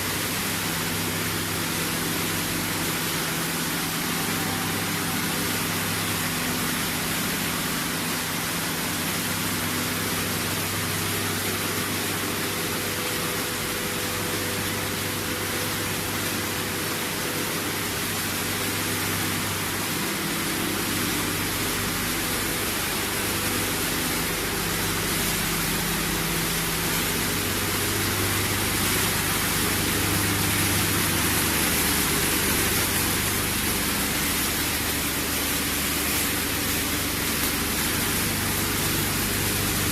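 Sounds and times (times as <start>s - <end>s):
low motor hum: 0.0s - 39.9s
machinery hiss: 0.0s - 39.9s.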